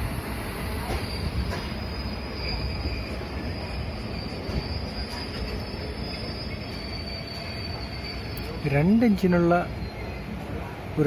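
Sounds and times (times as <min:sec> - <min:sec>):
train rumbling: 0:00.0 - 0:11.0
high wheel squeal: 0:00.7 - 0:10.4.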